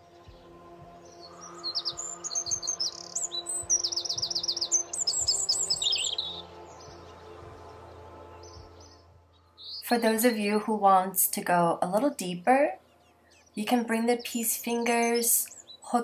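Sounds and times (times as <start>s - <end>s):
songbird chirping and trilling: 0.0s - 16.0s.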